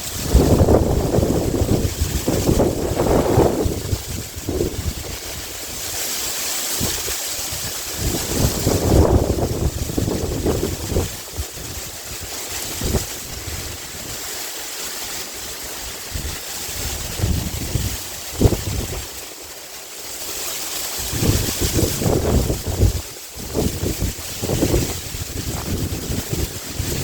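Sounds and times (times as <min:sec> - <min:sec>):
wind buffeting microphone: 0:00.0 - 0:06.0, 0:06.8 - 0:14.3, 0:16.0 - 0:19.2, 0:21.0 - 0:27.0
bamboo leaves rustling in wind: 0:00.0 - 0:27.0.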